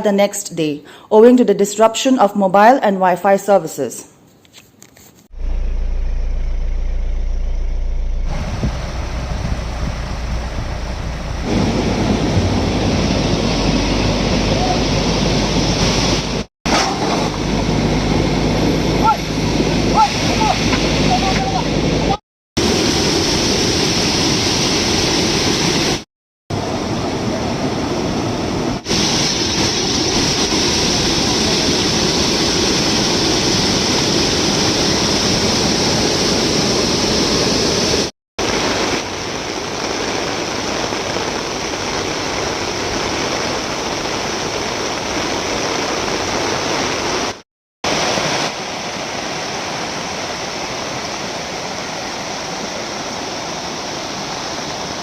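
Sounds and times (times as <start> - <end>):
floodwater rushing: 5.4 - 55.0.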